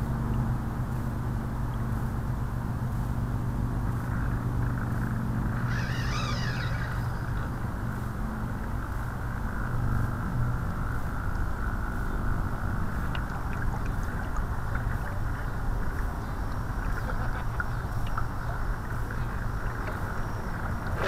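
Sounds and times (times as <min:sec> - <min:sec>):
wind and water rushing: 0:00.0 - 0:09.4, 0:11.6 - 0:21.0.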